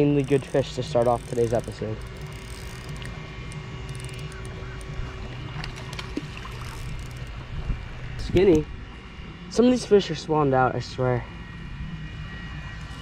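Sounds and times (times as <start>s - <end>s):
fishing reel whirring: 0.0s - 13.0s
low hum: 0.0s - 13.0s.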